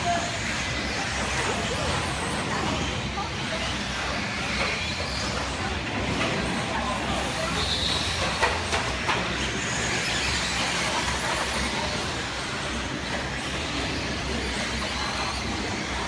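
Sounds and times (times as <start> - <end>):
rc trucks motor and tyre noise: 0.0 - 16.0.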